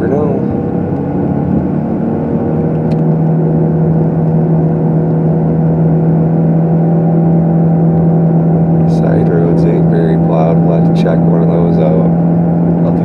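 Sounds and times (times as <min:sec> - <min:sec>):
car engine drone: 0:00.0 - 0:13.0
road noise inside car: 0:00.0 - 0:13.0.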